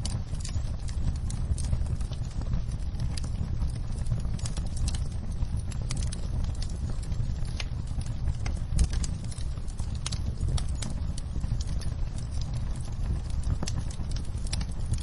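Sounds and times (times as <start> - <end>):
fire low rumble: 0.0 - 15.0
wood fire crackling pops: 0.0 - 15.0.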